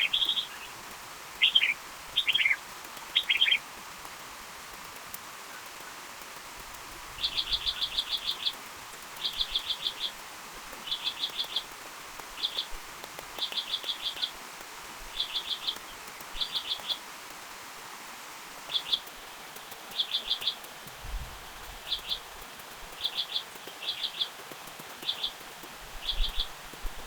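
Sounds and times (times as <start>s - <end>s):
background hiss: 0.0s - 27.0s.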